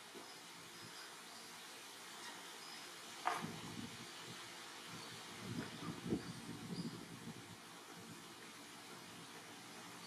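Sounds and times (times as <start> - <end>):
faint outdoor background hiss: 0.0 - 10.0.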